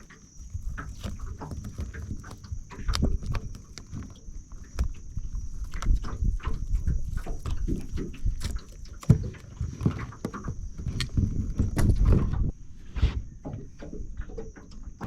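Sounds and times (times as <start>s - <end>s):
gear and crab pots clunking: 0.0s - 12.6s, 13.3s - 15.0s.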